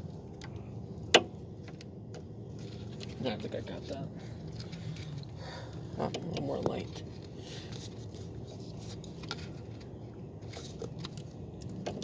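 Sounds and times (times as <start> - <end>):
small clicks and crunchy scrapes: 0.0 - 12.0.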